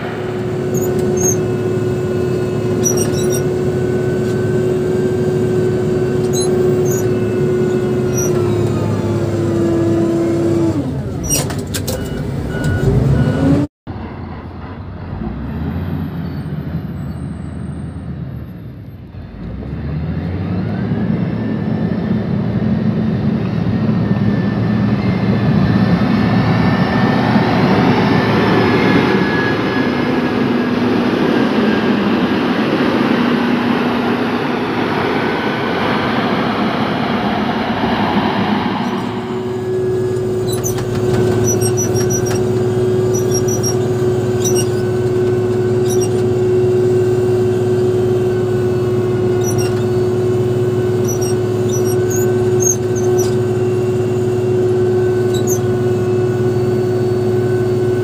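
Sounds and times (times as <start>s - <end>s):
diesel engine running: 0.0s - 58.0s
engine drone inside cab: 0.0s - 58.0s.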